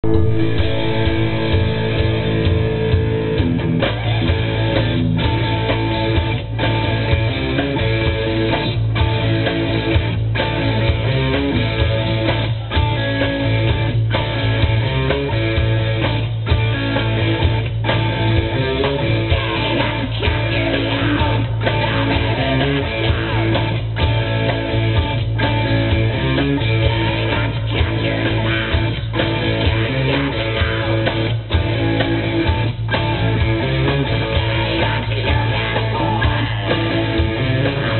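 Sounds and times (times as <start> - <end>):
live rock band playing: 0.0 - 37.9.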